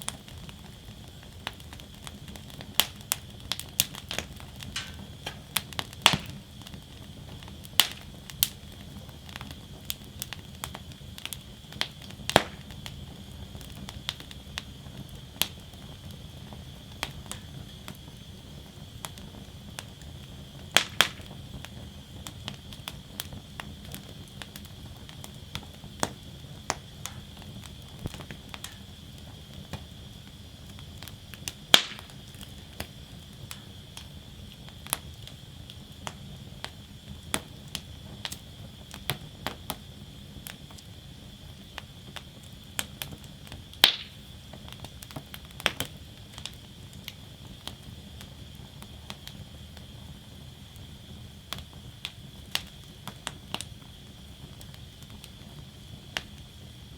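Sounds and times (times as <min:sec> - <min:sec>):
fire hissing: 0:00.0 - 0:56.9
wood fire crackling and popping: 0:00.0 - 0:56.9.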